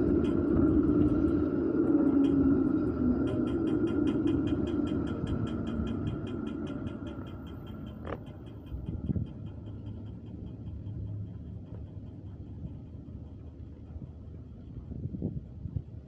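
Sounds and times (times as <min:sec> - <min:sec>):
high tram whine: 0:00.0 - 0:15.4
tram rumbling past: 0:00.0 - 0:16.0.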